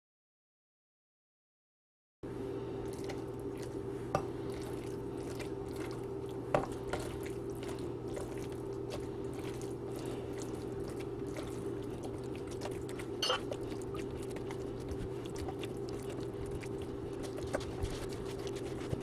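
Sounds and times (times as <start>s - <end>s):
hand mashing wet food: 2.9s - 19.0s.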